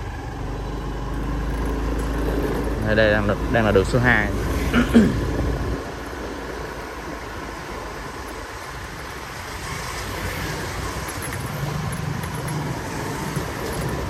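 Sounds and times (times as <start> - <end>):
road and wind noise: 0.0 - 14.0
traffic: 0.0 - 14.0.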